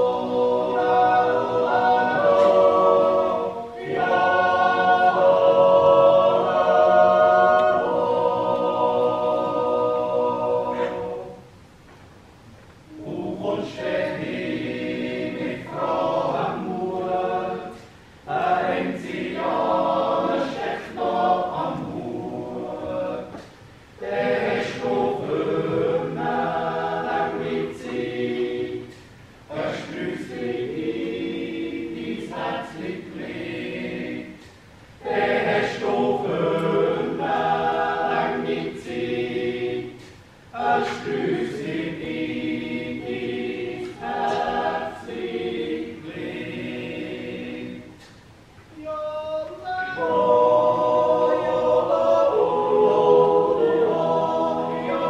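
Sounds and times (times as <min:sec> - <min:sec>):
male choir yodeling a cappella: 0:00.0 - 0:11.5, 0:12.9 - 0:48.1, 0:48.7 - 0:55.0.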